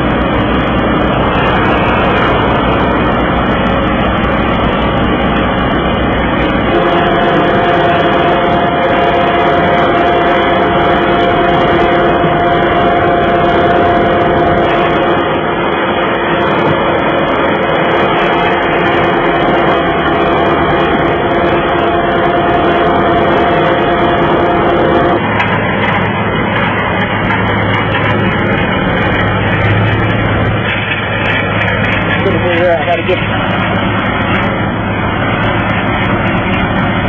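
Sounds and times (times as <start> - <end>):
high whine: 0.0 - 37.0
road sweeper engine and brush: 0.0 - 37.0.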